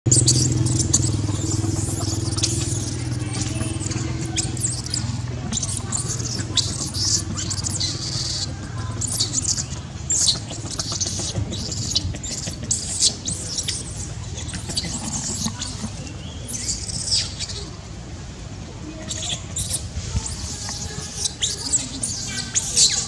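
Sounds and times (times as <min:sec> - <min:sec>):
baby monkey screaming: 0:00.1 - 0:17.8, 0:18.9 - 0:23.0.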